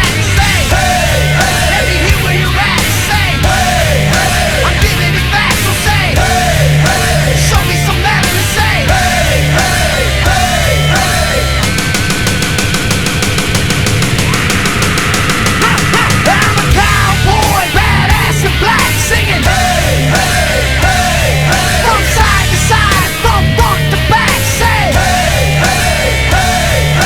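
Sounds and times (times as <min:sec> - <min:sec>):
heavy rock music: 0:00.0 - 0:27.0.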